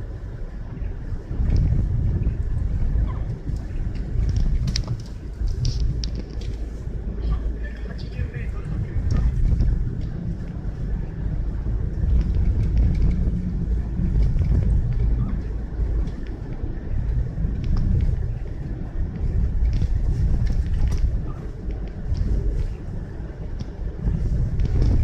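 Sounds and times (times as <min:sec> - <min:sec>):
car driving rumble: 0:00.0 - 0:25.0.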